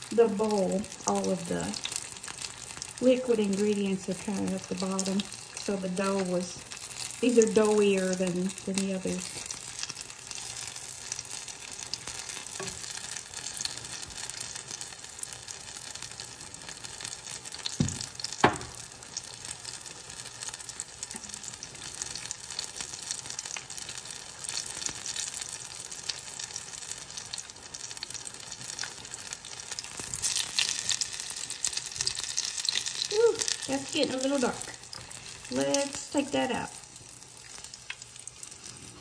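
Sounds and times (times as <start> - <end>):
deep-frying sizzle: 0.0 - 39.0.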